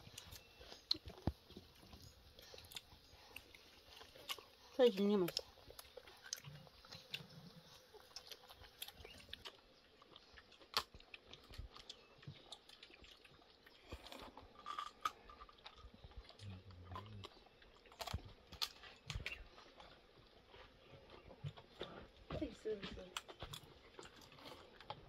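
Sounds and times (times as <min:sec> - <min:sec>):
chewing: 0:00.0 - 0:25.0.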